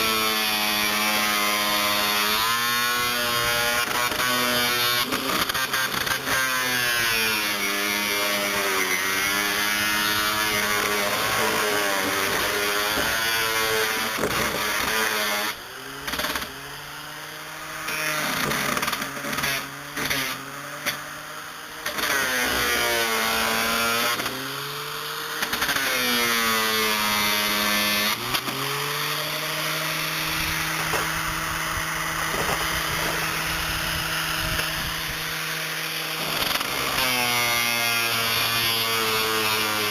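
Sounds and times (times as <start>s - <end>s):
grinding wheel cutting wood: 0.0s - 39.9s.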